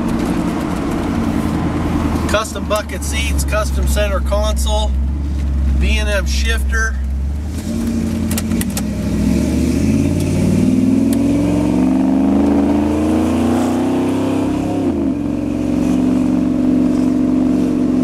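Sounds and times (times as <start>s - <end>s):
pickup engine accelerating: 0.0s - 18.0s.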